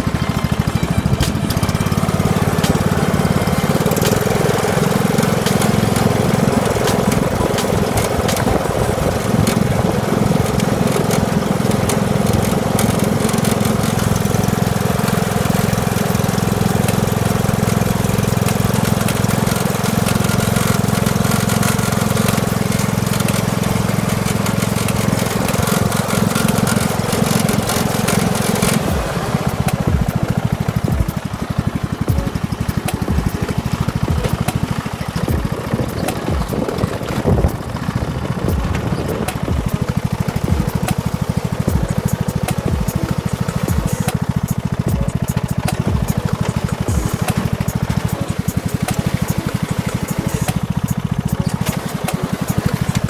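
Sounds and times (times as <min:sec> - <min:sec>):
lawn tractor engine running: 0:00.0 - 0:53.0.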